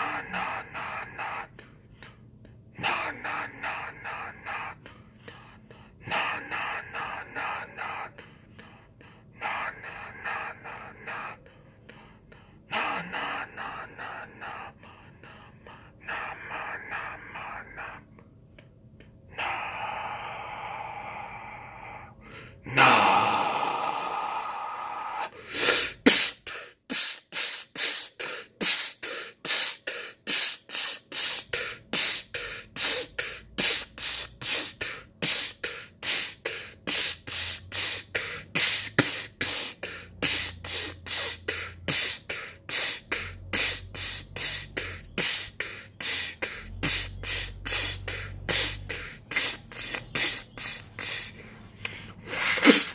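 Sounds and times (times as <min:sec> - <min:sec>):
person hissing breaths: 0:00.0 - 0:18.2, 0:19.3 - 0:52.9.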